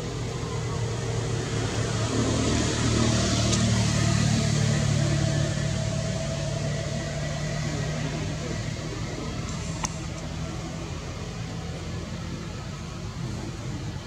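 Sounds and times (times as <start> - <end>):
motor vehicle engine hum: 0.0 - 14.0.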